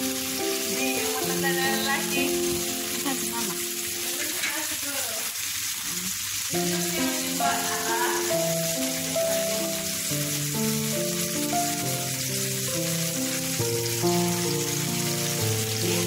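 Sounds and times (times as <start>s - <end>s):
background music of held notes: 0.0s - 4.2s, 6.5s - 16.0s
chicken sizzling on grill pan: 0.0s - 16.0s.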